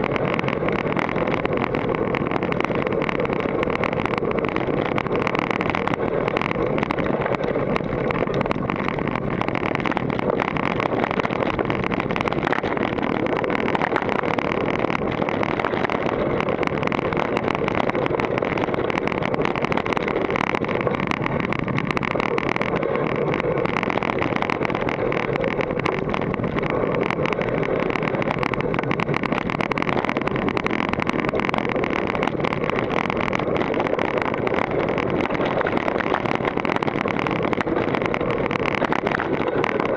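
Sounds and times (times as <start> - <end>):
mountain bike rattling on trail: 0.0 - 39.9
wind rushing over microphone: 0.0 - 39.9.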